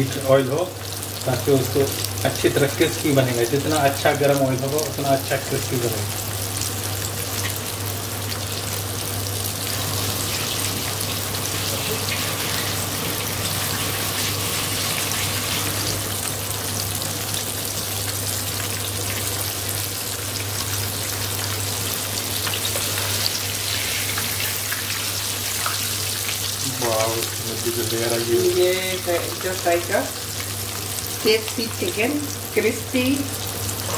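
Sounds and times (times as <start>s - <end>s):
chicken deep-frying in oil: 0.0s - 33.9s.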